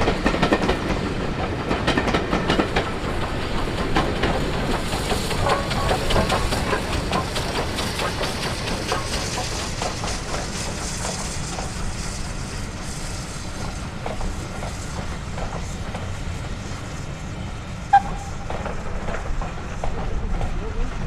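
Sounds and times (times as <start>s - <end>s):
hiss: 0.0s - 21.0s
train rumbling on track: 0.0s - 21.0s.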